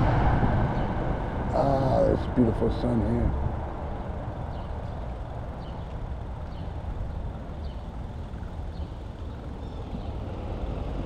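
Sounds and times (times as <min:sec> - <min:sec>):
wind and road noise rumble: 0:00.0 - 0:11.0.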